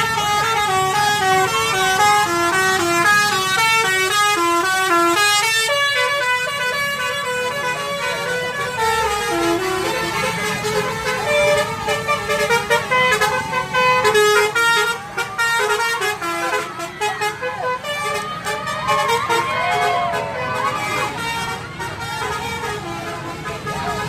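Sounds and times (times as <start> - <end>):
bus musical horn playing a tune: 0.0 - 24.0.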